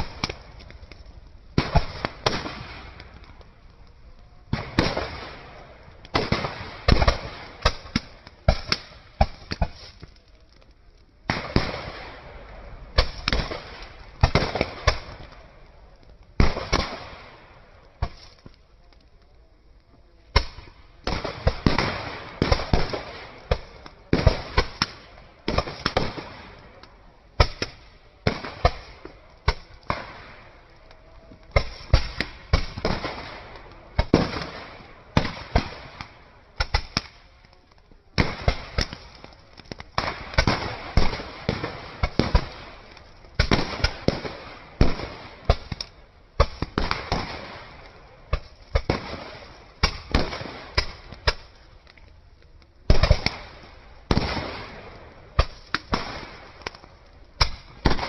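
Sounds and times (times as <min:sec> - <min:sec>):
sharp bangs and pops: 0:00.0 - 0:03.5, 0:04.5 - 0:15.4, 0:16.0 - 0:18.6, 0:20.3 - 0:52.1, 0:52.9 - 0:58.0.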